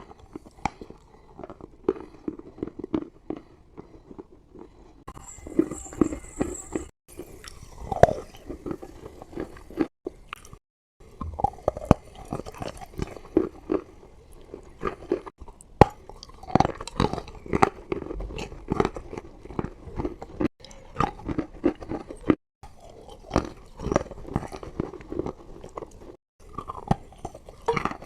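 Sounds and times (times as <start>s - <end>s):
chalk crunching while chewed: 0.0s - 10.6s, 11.2s - 28.0s.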